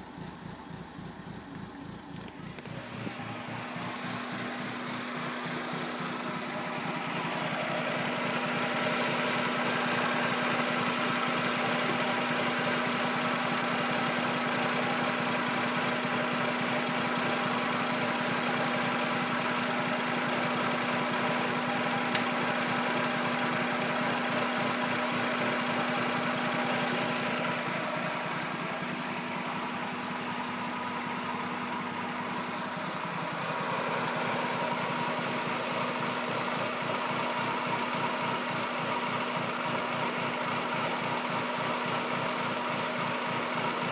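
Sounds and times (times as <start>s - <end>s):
car engine idling roughly: 0.0s - 43.9s.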